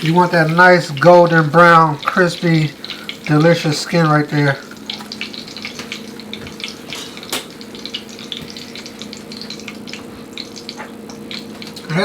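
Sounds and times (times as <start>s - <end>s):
frying oil crackling and sizzling: 0.0s - 12.0s.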